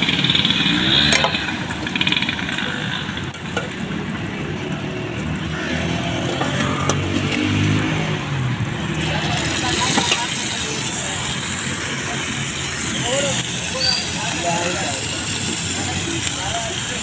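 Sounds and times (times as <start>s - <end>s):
vehicle engines passing: 0.0s - 17.0s.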